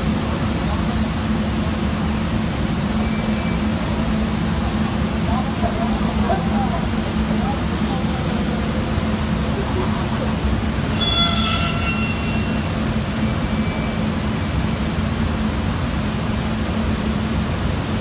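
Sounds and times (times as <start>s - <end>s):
high-pitched whine: 0.9s - 17.3s.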